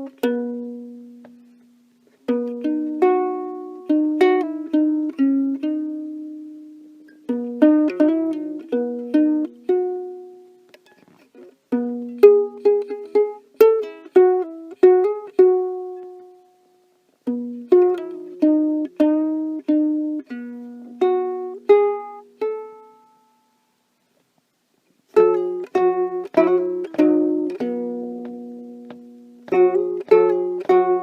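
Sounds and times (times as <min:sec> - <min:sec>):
ukulele plucked melody: 0:00.0 - 0:23.7, 0:25.0 - 0:31.0.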